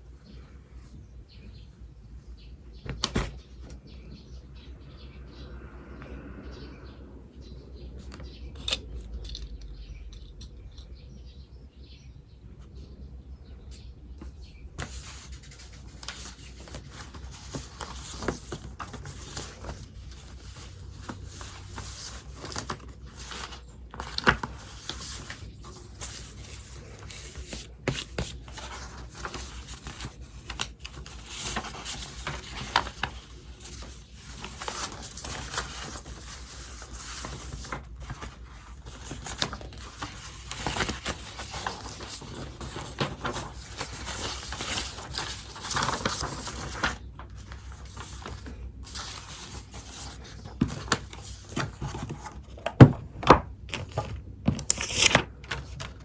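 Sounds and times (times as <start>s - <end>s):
faint birds chirping: 0.0s - 52.6s.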